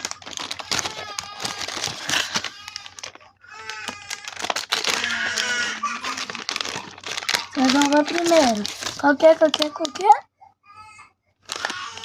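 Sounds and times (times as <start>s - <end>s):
plastic packaging crinkling: 0.0s - 10.2s, 11.5s - 12.0s.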